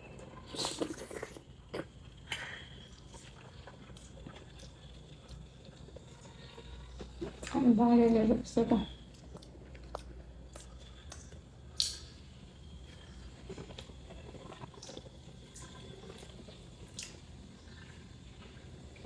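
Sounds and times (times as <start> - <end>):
person chewing food: 0.0 - 7.6, 8.9 - 19.0.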